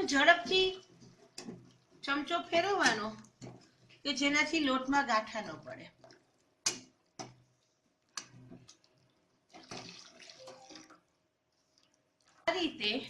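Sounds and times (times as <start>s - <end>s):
liquid sloshing and splashing: 0.0s - 12.7s.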